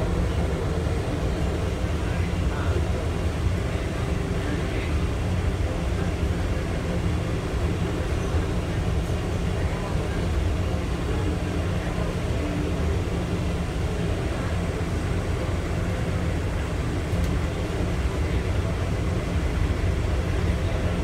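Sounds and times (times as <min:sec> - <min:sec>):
people-mover car rumbling: 0:00.0 - 0:21.0.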